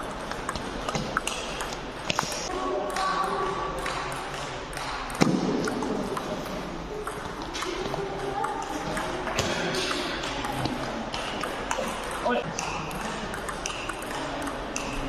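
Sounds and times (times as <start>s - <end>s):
table tennis ball clicking: 0.0s - 15.0s.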